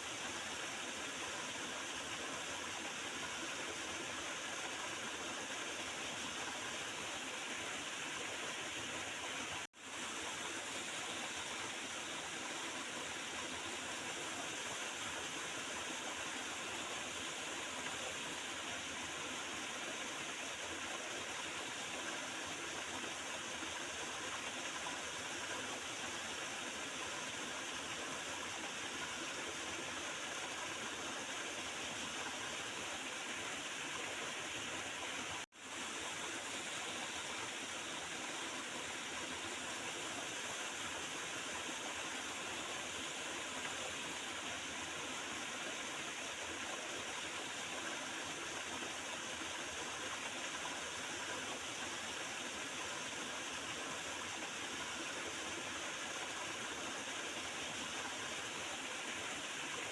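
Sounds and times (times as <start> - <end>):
river flowing and gurgling: 0.0 - 59.9.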